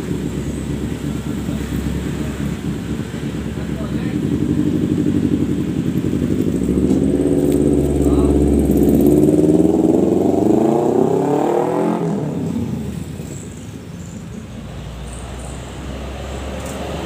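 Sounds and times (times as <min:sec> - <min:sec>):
vehicle engine speeding up: 0:00.0 - 0:13.4, 0:15.2 - 0:17.0.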